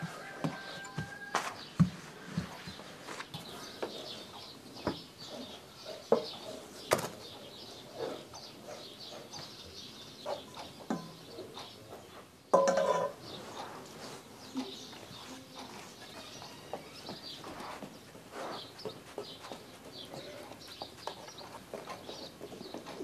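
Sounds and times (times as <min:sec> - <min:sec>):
small birds chirping: 0:00.2 - 0:12.6, 0:13.2 - 0:23.0.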